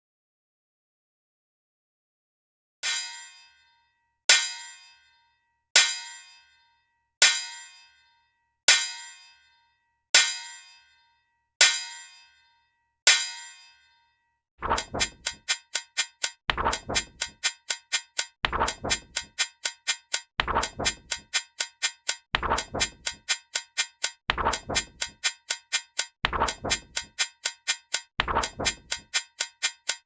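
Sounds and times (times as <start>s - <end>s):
metallic dings: 2.8s - 30.0s.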